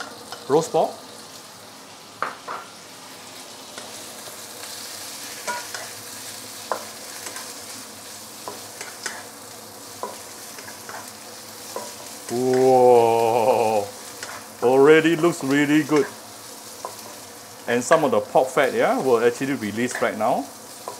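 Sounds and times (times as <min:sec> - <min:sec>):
meat sizzling in a wok: 0:00.0 - 0:20.9.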